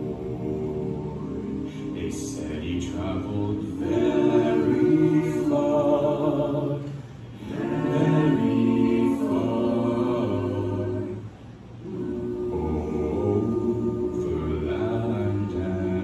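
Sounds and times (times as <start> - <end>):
vocal group singing in harmony: 0.0 - 16.0.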